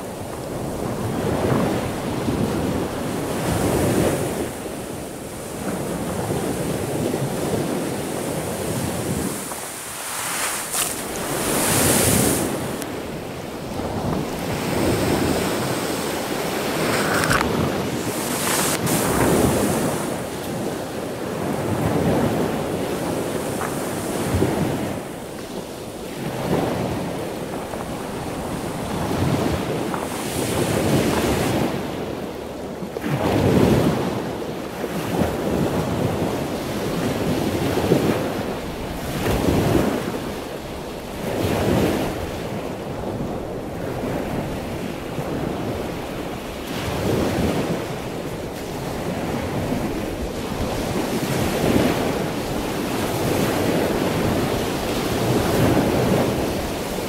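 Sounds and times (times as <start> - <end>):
storm surf breaking: 0.0 - 31.8, 41.2 - 57.0
wind rumbling on microphone: 0.0 - 57.0.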